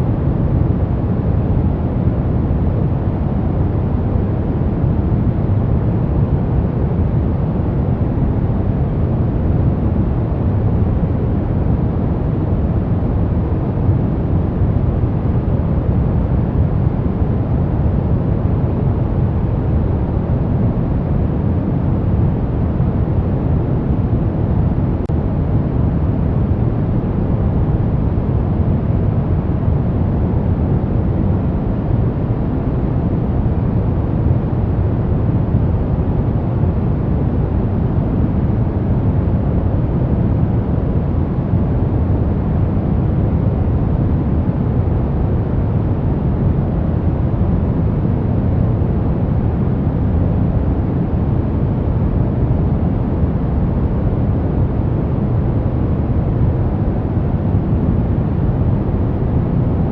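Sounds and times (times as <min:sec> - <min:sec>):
deep steady noise rush: 0:00.0 - 0:59.9.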